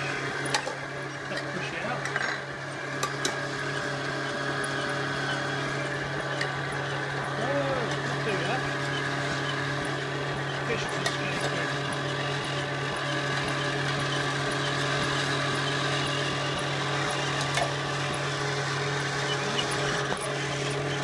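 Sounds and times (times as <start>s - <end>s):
stand mixer motor hum: 0.0s - 21.0s.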